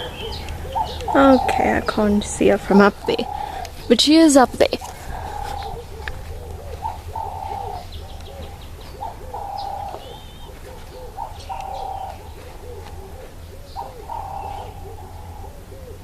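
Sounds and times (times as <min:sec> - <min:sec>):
dove cooing: 0:00.0 - 0:16.0
small birds chirping: 0:00.0 - 0:16.0.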